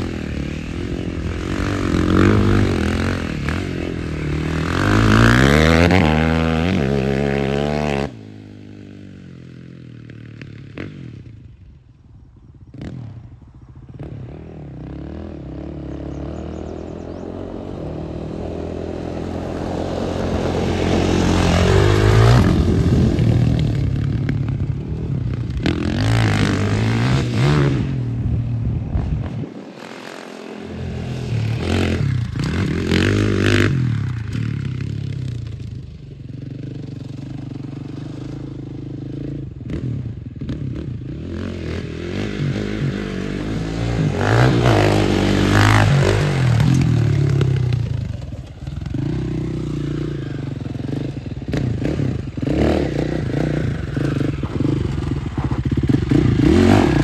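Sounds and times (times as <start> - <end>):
quad bike engine revving: 0.0 - 11.7, 12.6 - 57.0.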